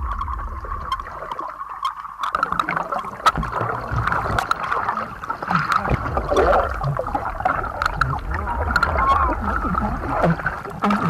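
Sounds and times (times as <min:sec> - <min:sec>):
sharp splashy clicks: 0:00.0 - 0:11.0
water sloshing and gurgling: 0:00.0 - 0:11.0.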